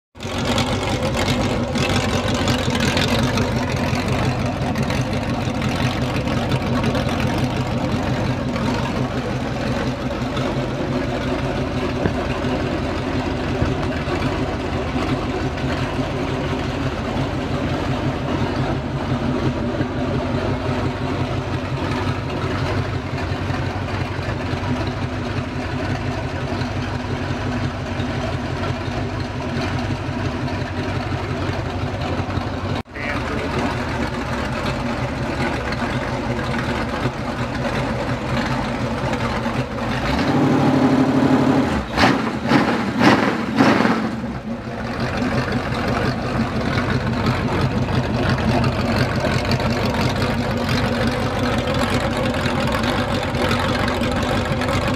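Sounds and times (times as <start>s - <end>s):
engine idling unmuffled: 0.2s - 54.9s.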